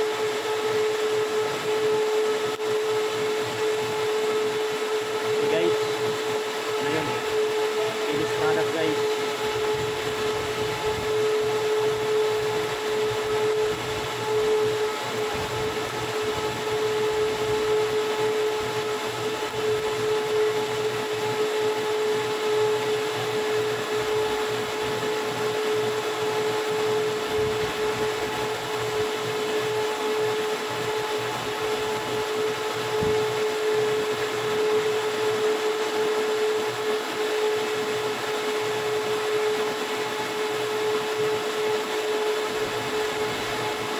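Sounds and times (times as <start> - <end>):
machine motor humming and whining: 0.0 - 43.9.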